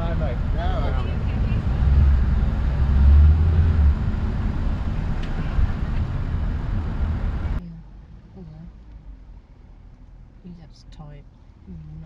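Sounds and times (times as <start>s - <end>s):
car engine rumbling: 0.0s - 12.0s
road noise: 0.0s - 12.0s.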